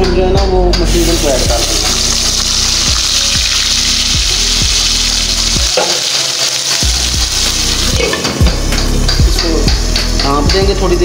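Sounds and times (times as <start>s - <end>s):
hot oil sizzling and bubbling: 0.8s - 10.1s.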